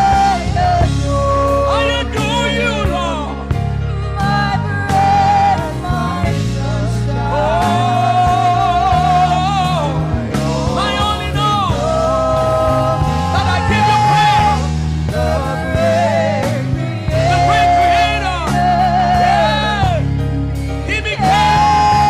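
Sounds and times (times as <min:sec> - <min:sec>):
gospel singer with band: 0:00.0 - 0:22.0.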